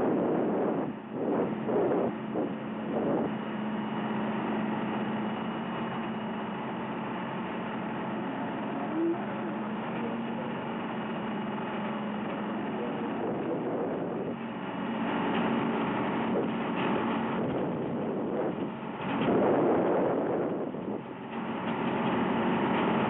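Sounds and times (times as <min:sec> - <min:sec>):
boat engine humming: 0:00.0 - 0:23.0
dense wash of noise: 0:00.0 - 0:23.0.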